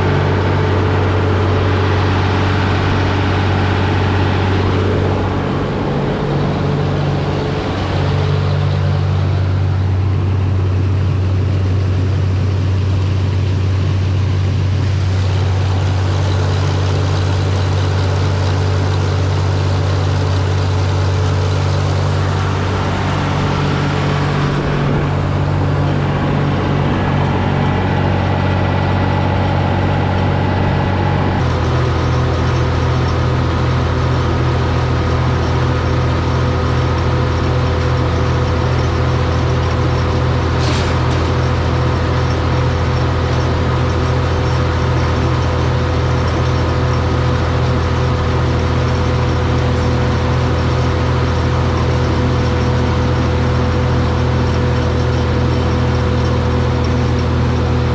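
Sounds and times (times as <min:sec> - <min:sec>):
combine harvester engine drone: 0:00.0 - 0:57.9
threshing machinery noise: 0:00.0 - 0:57.9.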